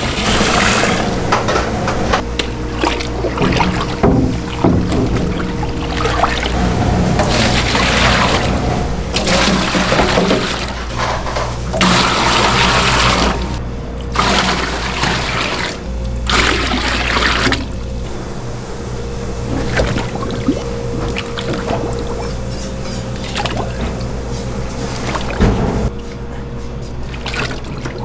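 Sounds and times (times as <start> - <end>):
low hum: 0.0 - 25.9
water gushing: 0.0 - 25.9.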